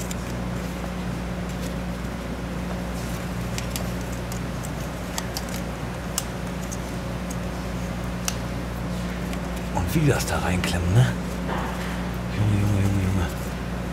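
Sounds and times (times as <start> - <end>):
low hum: 0.0 - 13.9.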